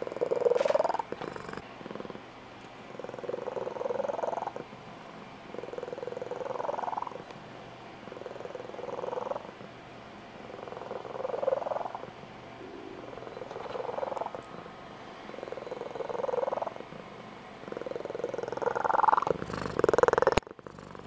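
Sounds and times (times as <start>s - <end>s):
cat purring with high trills: 0.0s - 2.3s, 2.9s - 9.8s, 10.4s - 14.7s, 15.3s - 21.0s.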